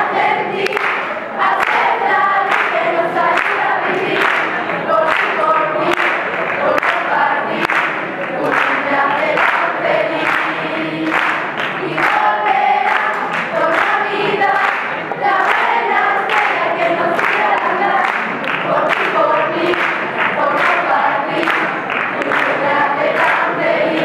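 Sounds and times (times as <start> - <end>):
choir singing a carol: 0.0 - 24.0.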